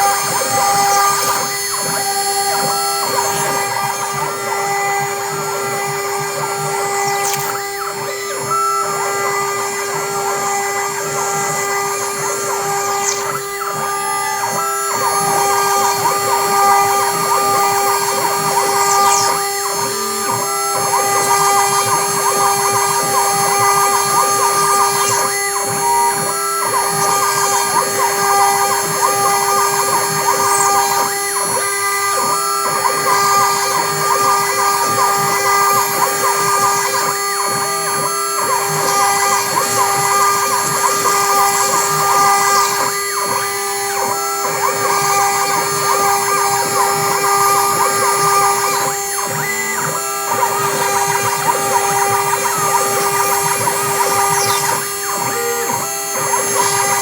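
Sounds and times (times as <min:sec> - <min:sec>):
cutting rattle: 0:00.0 - 0:08.7, 0:12.1 - 0:43.8, 0:46.1 - 0:57.0
cnc router motors whining: 0:00.0 - 0:57.0
stepper motor tones changing pitch: 0:00.0 - 0:57.0.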